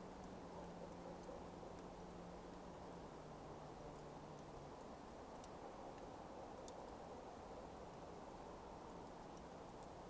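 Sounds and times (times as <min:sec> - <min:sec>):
coals crackling ticks: 0:00.0 - 0:10.0
smouldering coals hissing: 0:00.0 - 0:10.0.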